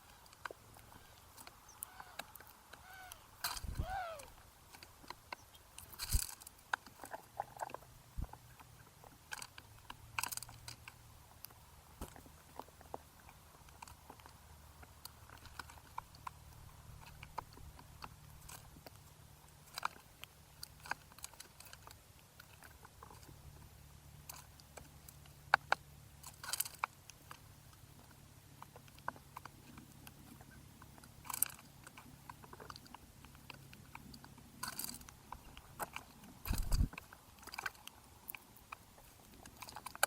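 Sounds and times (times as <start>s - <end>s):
birds pecking seed: 0.0s - 40.0s
faint low hum: 0.0s - 40.0s.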